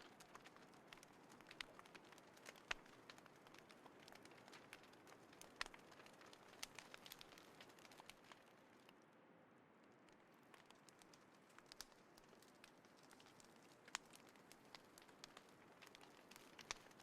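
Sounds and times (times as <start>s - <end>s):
wood fire crackling and popping: 0.0s - 9.0s, 9.9s - 17.0s.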